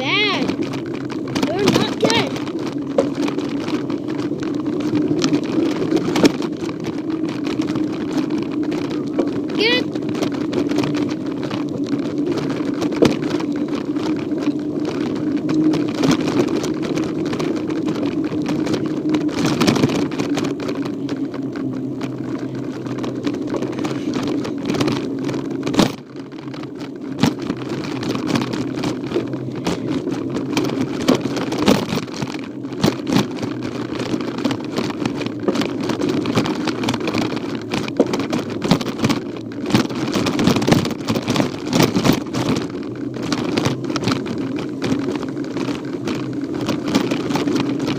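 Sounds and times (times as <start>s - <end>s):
bicycle rolling on path: 0.0s - 47.9s.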